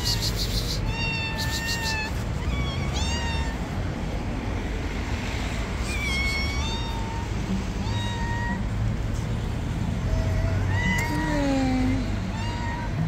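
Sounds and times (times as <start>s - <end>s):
cats meowing: 0.0s - 4.2s, 5.7s - 9.3s, 9.9s - 13.0s.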